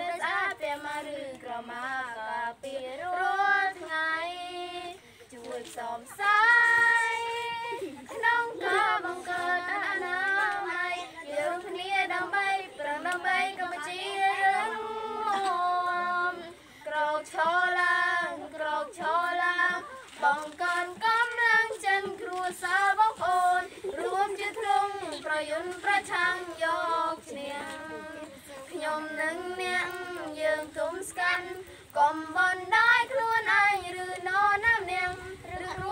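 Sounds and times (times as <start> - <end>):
children singing together: 0.0 - 35.9.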